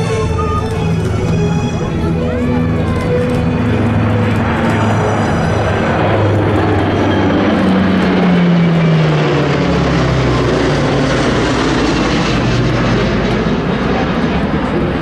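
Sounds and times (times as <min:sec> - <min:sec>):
aircraft engines rumbling overhead: 0:00.0 - 0:15.0.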